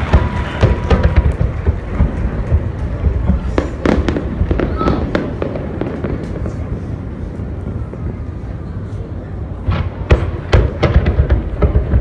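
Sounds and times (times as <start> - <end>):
faint fireworks crackles: 0.0 - 12.0
fireworks low rumble: 0.0 - 12.0.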